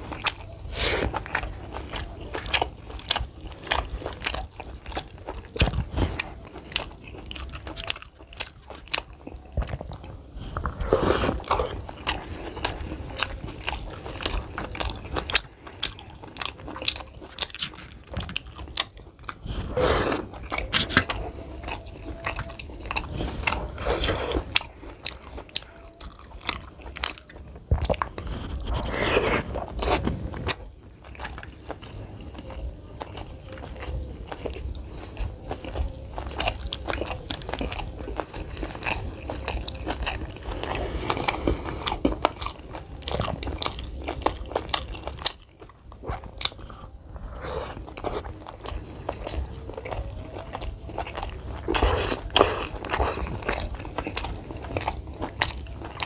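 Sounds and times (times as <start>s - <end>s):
chewing and crunching snacks: 0.0s - 56.0s.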